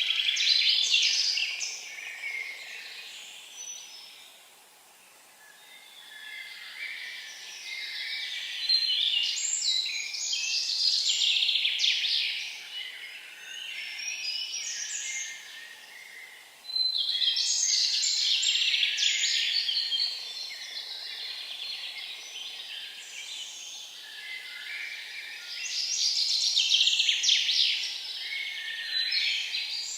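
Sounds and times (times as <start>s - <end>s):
songbirds singing: 0.0s - 29.9s.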